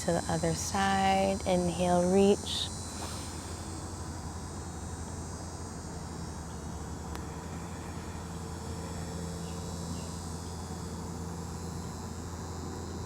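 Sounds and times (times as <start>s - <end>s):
crickets chirring: 0.0s - 13.0s
low steady rumble: 0.0s - 13.0s.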